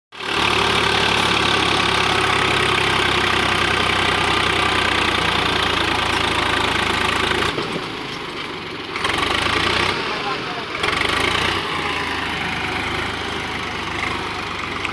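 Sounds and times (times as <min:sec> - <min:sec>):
tractor diesel engine running: 0:00.1 - 0:14.9.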